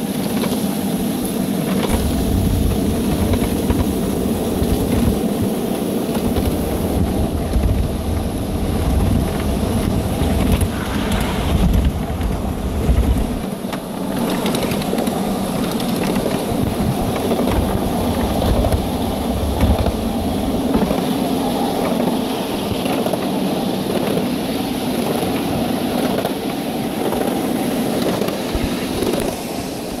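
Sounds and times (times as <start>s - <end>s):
miniature railway cars rumbling on track: 0.0s - 30.0s
wind buffeting microphone: 0.2s - 30.0s.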